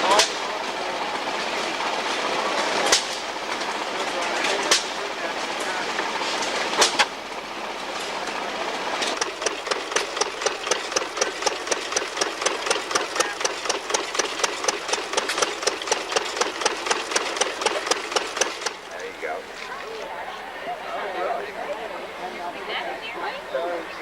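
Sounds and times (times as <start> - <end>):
engine running with rapid ticking: 0.0 - 20.0.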